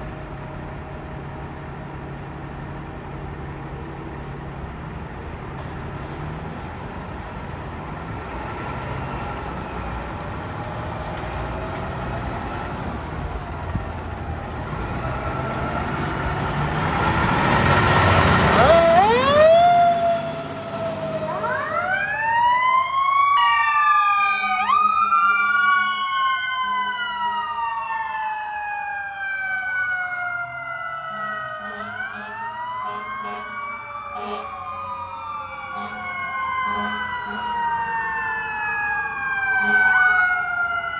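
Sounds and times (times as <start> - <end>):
fire truck engine: 0.0 - 40.9
road noise: 0.0 - 40.9
sirens wailing: 0.0 - 40.9.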